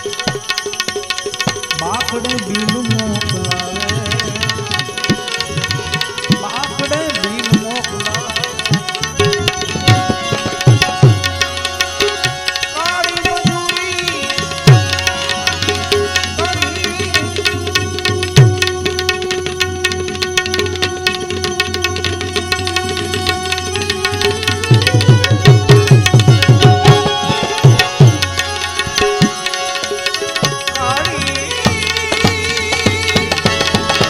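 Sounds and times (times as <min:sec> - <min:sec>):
melody instrument: 0:00.0 - 0:34.0
tabla playing: 0:00.0 - 0:34.0.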